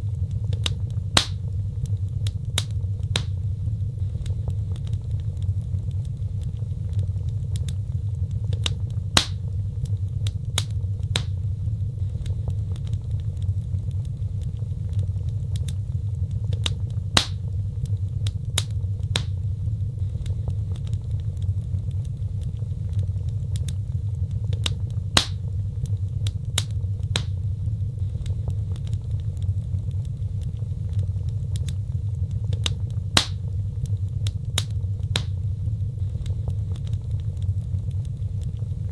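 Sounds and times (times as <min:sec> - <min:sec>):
fire crackles and pops: 0:00.0 - 0:38.9
fire rumbling: 0:00.0 - 0:38.9.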